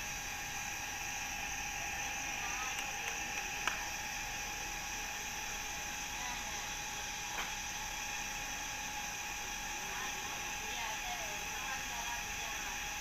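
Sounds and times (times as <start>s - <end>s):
train mechanical hum and hiss: 0.0s - 13.0s.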